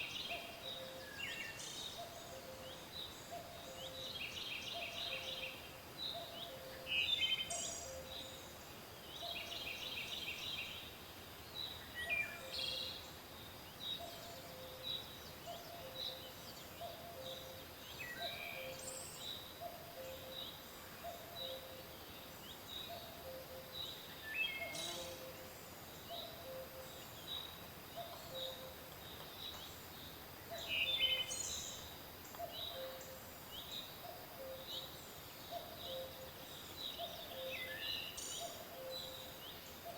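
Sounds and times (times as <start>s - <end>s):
falling bird song phrases: 0.0s - 39.9s.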